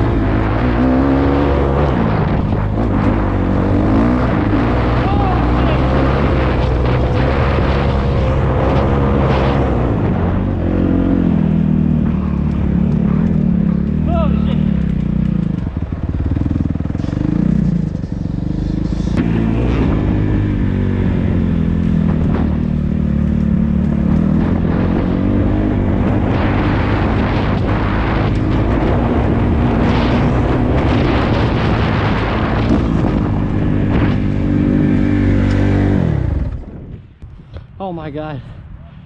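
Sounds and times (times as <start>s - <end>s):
dirt bike engine: 0.0s - 38.1s.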